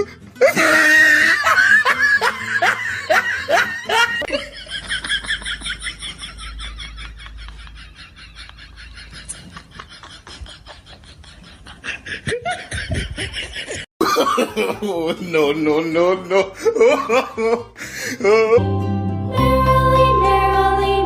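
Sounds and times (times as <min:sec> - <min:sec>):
person laughing: 0:00.0 - 0:18.7.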